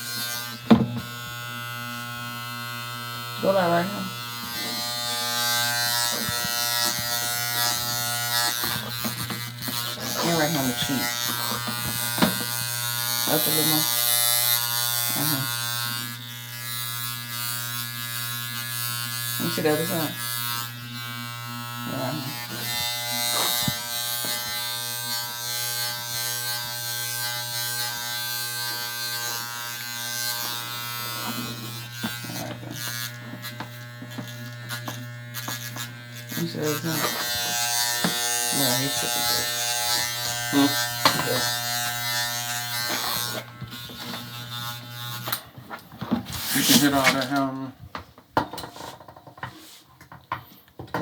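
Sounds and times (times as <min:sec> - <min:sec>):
electric hair clippers buzzing: 0:00.0 - 0:47.6
clippers cutting beard scratchily: 0:00.0 - 0:47.7.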